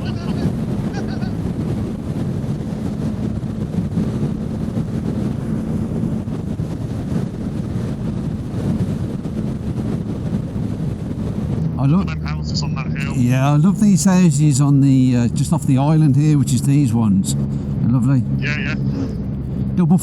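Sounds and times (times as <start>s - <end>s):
wind noise on microphone: 0.0s - 19.8s
motorcycle engine cruising: 0.0s - 20.0s.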